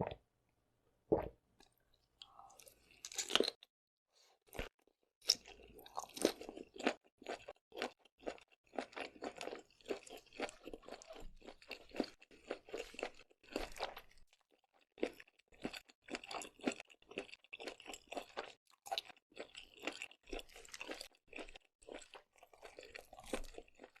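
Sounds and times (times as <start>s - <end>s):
chewing seafood: 1.6s - 3.7s, 4.4s - 24.0s.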